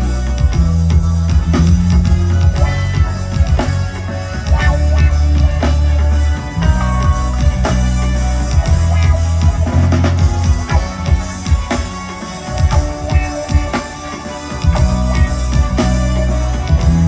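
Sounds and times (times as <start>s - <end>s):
drums striking: 0.0s - 17.0s
rock band playing: 0.0s - 17.0s.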